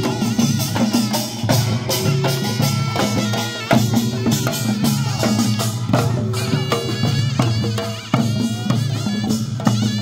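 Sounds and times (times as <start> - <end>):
percussion band drumming: 0.0 - 10.0.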